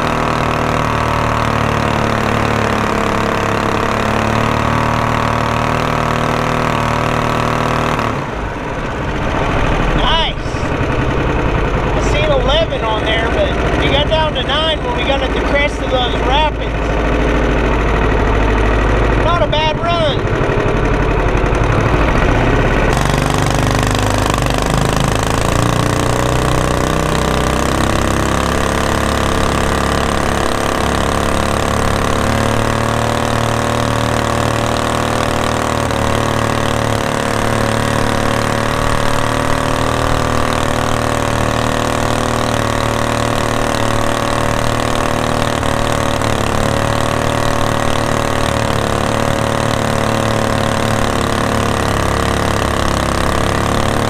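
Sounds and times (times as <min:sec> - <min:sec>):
small engine revving: 0:00.0 - 0:54.0.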